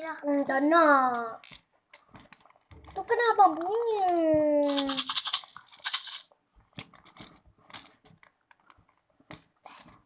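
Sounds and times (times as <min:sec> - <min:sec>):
gumball machine mechanism rattling: 0:00.2 - 0:10.0.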